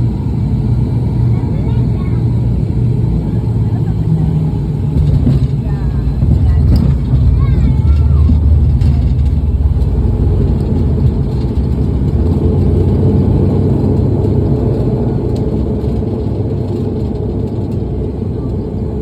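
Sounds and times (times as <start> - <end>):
airliner engines rumbling: 0.0 - 19.0.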